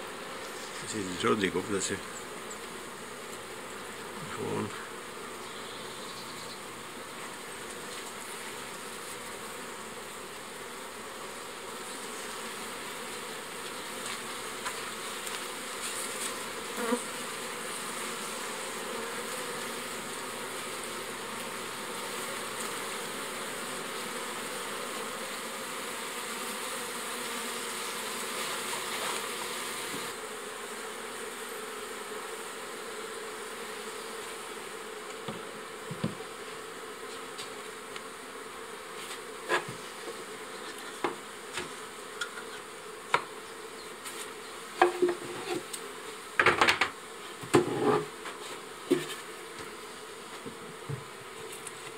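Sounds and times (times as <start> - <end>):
bees buzzing: 0.0 - 51.9.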